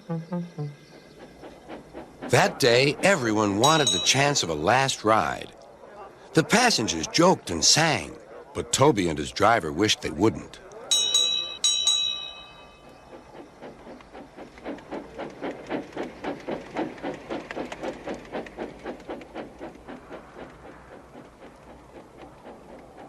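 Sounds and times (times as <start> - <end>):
steam locomotive chuffing: 0.9 - 5.5, 6.3 - 23.0.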